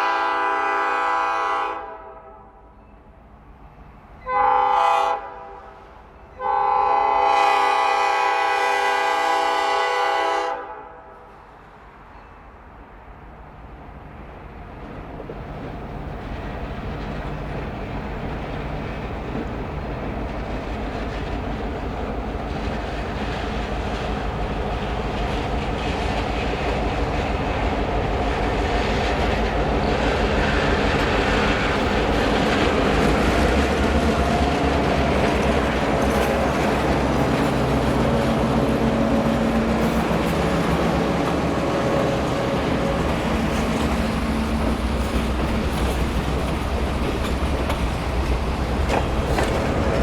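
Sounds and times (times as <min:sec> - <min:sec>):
diesel locomotive engine drone: 0:00.0 - 0:50.0
train rail noise: 0:00.0 - 0:50.0.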